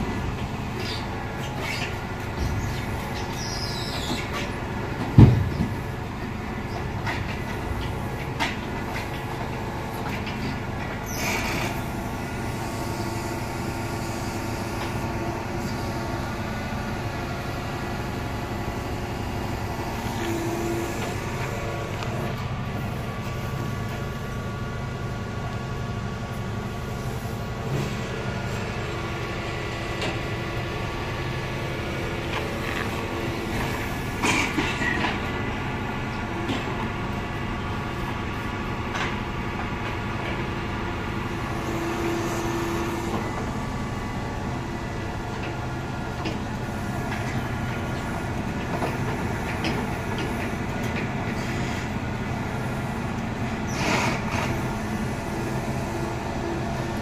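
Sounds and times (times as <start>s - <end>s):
crane hum: 0.0s - 57.0s
lorry engine running: 0.0s - 57.0s.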